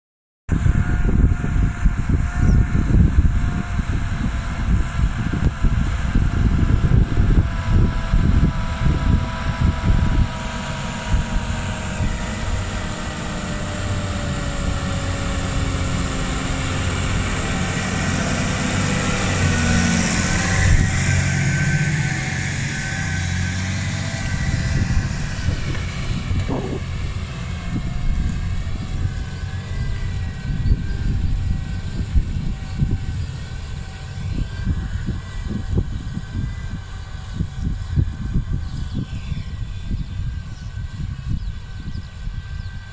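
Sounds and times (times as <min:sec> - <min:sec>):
tractor diesel engine under load: 0:00.5 - 0:42.9
wind buffeting microphone: 0:00.5 - 0:42.9.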